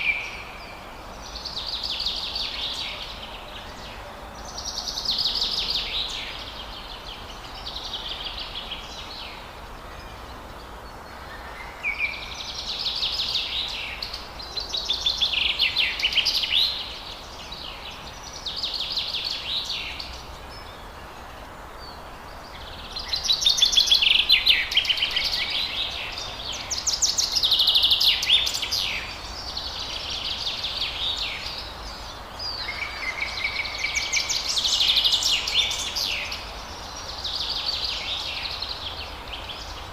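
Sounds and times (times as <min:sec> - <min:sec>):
forest birds singing: 0:00.0 - 0:39.9
steady background hiss: 0:00.0 - 0:39.9.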